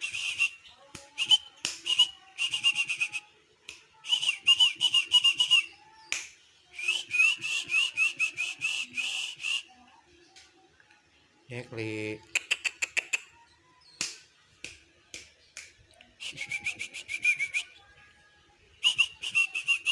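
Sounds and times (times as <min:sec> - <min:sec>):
songbird chirping: 0:00.0 - 0:19.9.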